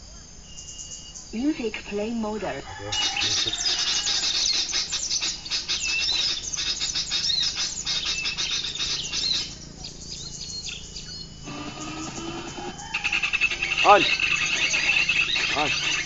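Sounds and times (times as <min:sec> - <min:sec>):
recorded bird chirping from speaker: 0:00.0 - 0:16.0.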